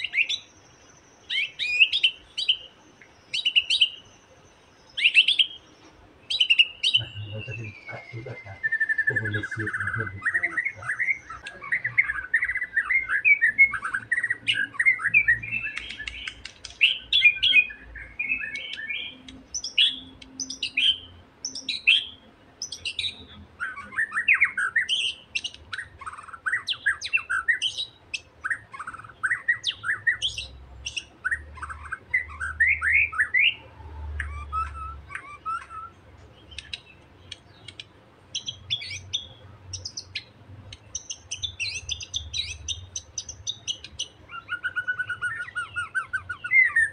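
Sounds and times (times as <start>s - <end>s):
bird chirps and whistles: 1.3s - 2.6s, 6.3s - 36.8s, 41.0s - 46.9s.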